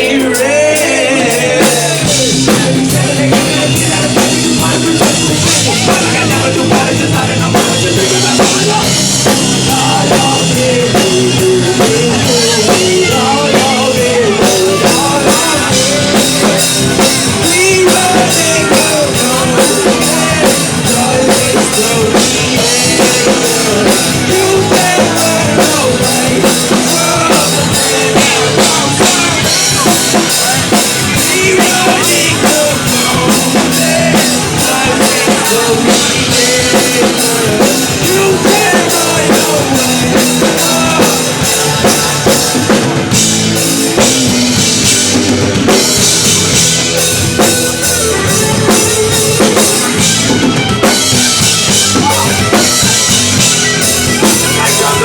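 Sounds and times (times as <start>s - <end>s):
driving drum beat: 0.0s - 55.0s
live rock band playing: 0.0s - 55.0s.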